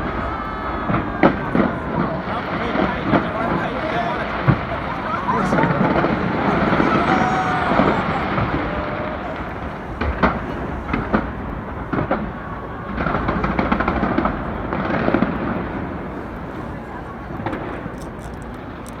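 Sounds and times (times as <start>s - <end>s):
crowd chatter: 0.0s - 19.0s
fireworks bangs and crackling: 0.0s - 19.0s.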